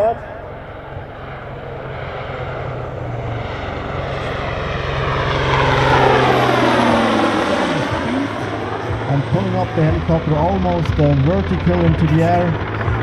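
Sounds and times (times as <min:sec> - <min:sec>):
helicopter flying: 0:00.0 - 0:13.0
steady low hum: 0:00.0 - 0:13.0.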